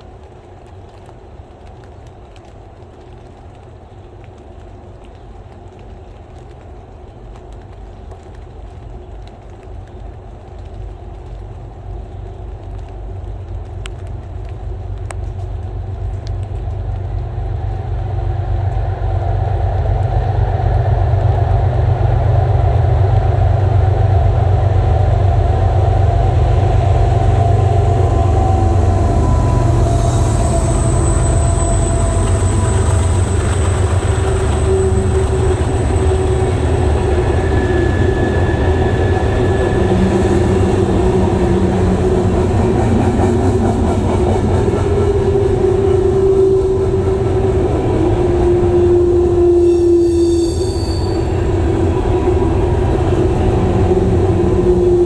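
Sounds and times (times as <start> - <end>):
diesel locomotive engine drone: 0.0 - 55.0
freight cars rolling on rails: 0.0 - 55.0.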